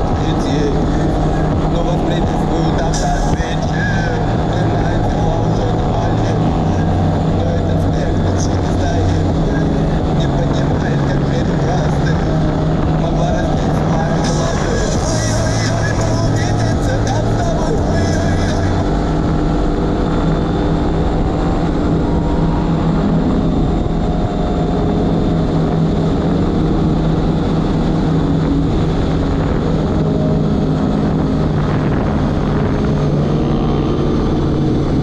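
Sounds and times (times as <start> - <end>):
motorbike engine running: 0.0 - 35.0.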